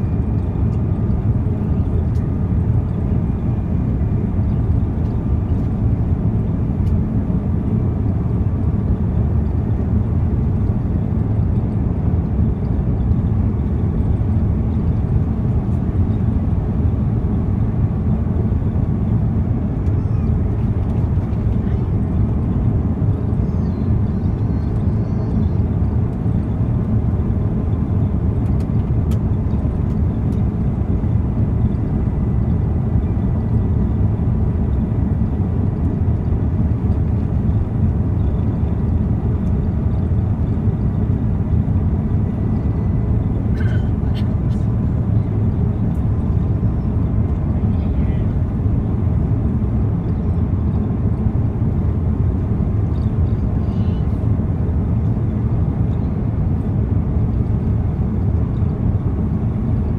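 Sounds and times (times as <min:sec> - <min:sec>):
airliner engines rumbling in cabin: 0:00.0 - 0:59.9.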